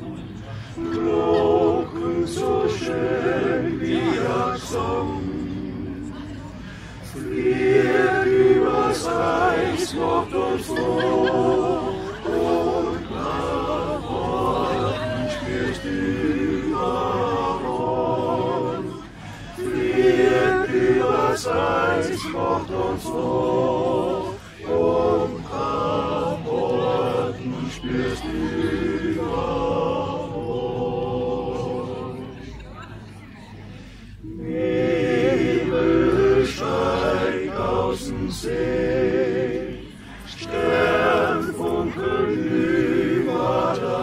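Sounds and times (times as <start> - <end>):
men's choir singing a cappella: 0.0 - 32.6, 34.2 - 44.0.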